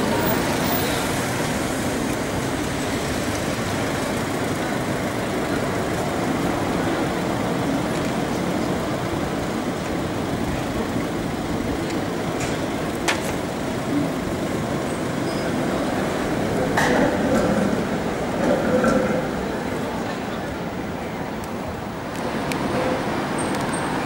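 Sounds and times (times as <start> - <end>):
cars pulling away: 0.0 - 19.7
tram: 0.0 - 24.0.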